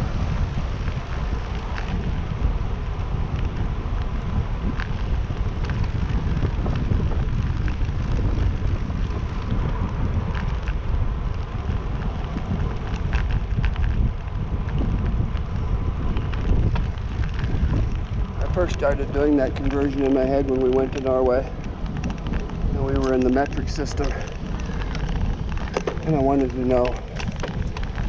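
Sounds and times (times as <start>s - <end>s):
bicycle ticks and rattles: 0.0s - 28.0s
wind rushing over microphone: 0.0s - 28.0s.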